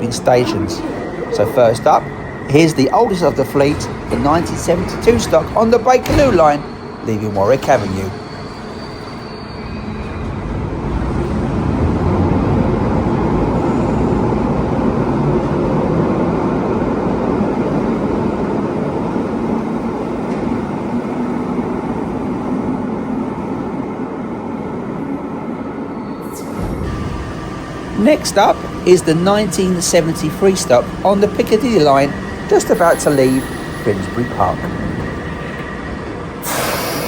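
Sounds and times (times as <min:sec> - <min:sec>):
underground train pulling out: 0:00.0 - 0:37.0.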